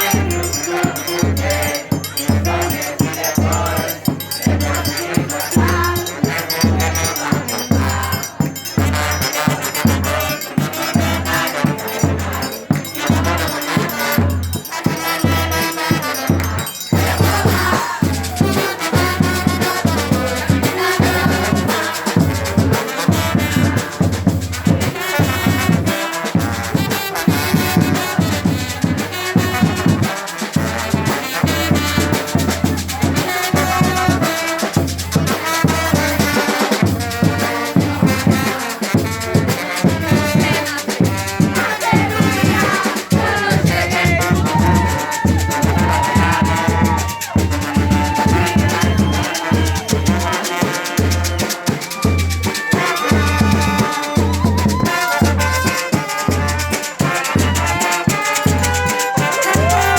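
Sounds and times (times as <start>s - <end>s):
bass drum beat: 0.0s - 59.9s
brass playing a tune: 0.0s - 59.9s
shaker: 0.0s - 59.9s
snare drum: 0.0s - 59.9s.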